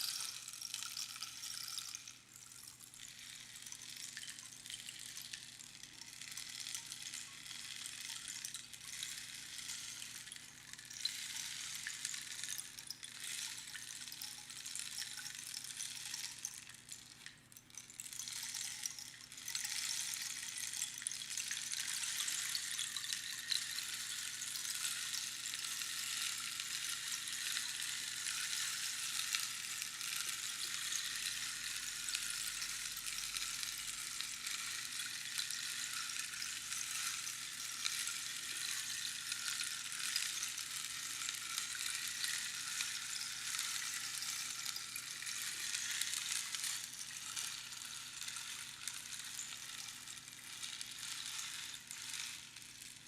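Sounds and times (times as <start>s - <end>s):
rainstick pebbles trickling: 0.0s - 53.0s.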